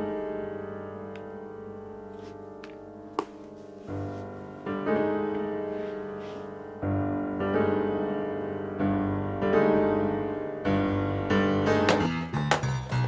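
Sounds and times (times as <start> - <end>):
slow solo piano chords: 0.0 - 13.0.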